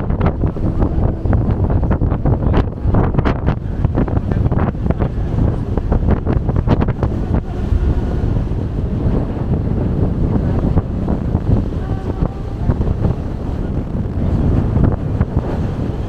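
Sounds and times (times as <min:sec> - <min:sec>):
low steady rumble: 0:00.0 - 0:16.0
wind buffeting microphone: 0:00.0 - 0:16.0.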